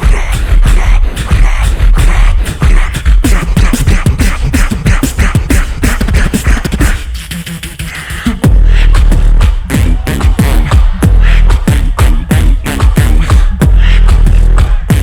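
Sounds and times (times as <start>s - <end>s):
deep beatboxed bass line: 0.0s - 15.0s
vocal beatboxing kicks and snares: 0.0s - 15.0s.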